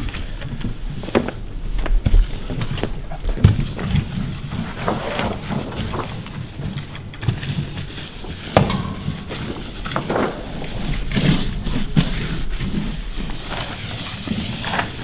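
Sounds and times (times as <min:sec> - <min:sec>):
paper rustling and rubbing: 0:00.9 - 0:15.0.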